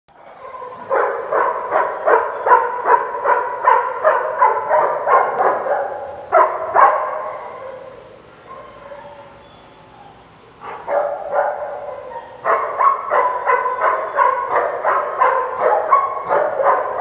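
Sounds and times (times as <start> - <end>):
big dog barking: 0.2 - 9.4, 10.1 - 17.0.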